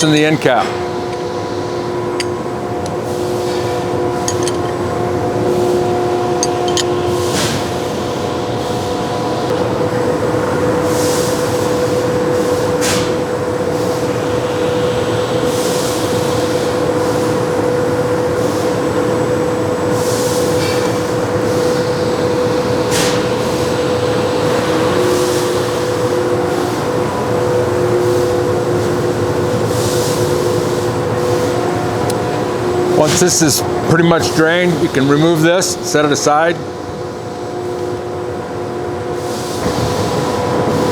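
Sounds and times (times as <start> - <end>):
mechanical drone with hum: 0.0 - 40.9.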